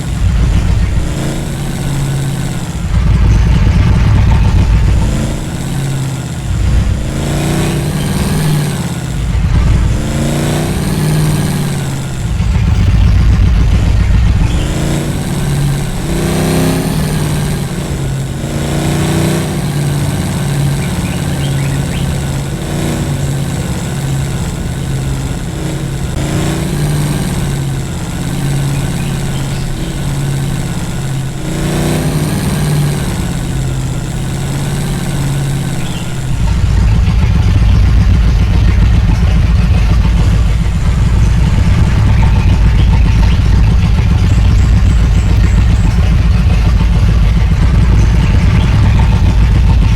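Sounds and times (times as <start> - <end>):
off-road vehicle engine revving: 0.0 - 49.9.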